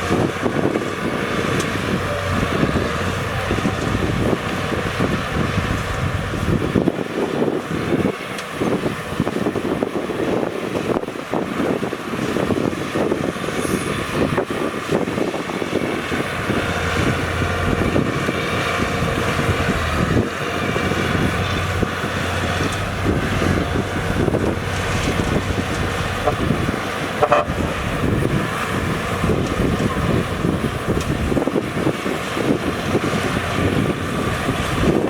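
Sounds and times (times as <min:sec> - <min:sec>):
diesel engines of heavy machines: 0:00.0 - 0:35.0.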